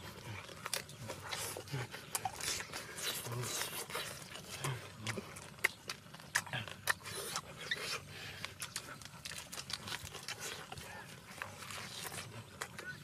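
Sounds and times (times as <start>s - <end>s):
crunching food: 0.0s - 13.0s
people chewing and lip smacking: 0.0s - 13.0s.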